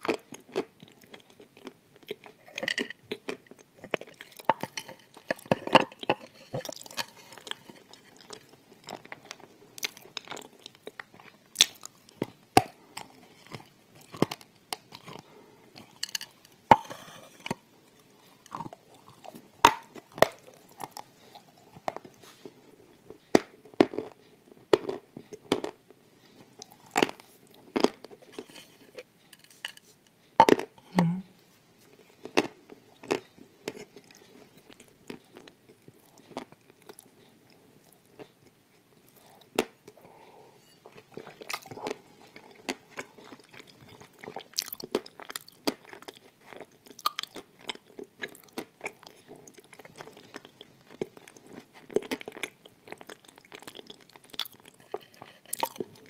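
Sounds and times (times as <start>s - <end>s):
quiet chewing: 0.0s - 56.0s.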